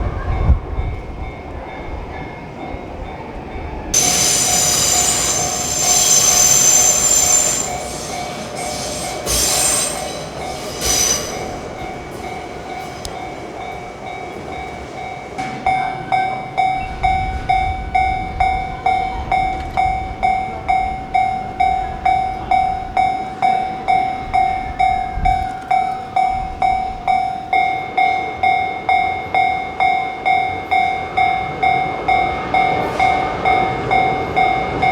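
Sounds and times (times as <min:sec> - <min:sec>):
electric train passing: 0:00.0 - 0:34.9
level crossing alarm bell: 0:01.0 - 0:34.9.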